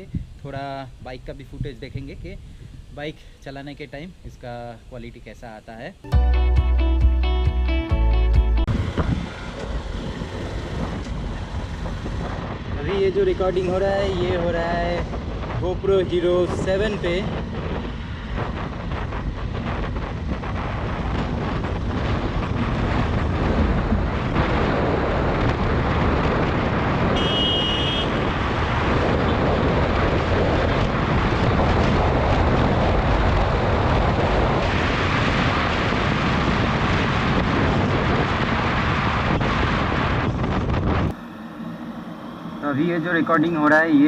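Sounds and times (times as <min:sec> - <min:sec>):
wind buffeting microphone: 0:00.0 - 0:03.1, 0:08.6 - 0:44.0
motorcycle engine and tyre noise: 0:08.7 - 0:44.0.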